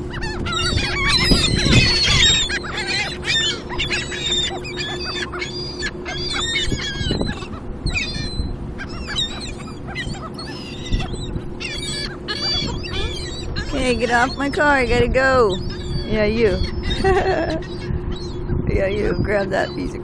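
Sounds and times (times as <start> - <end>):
seagulls calling: 0.0 - 20.0
steady low hum: 0.0 - 20.0.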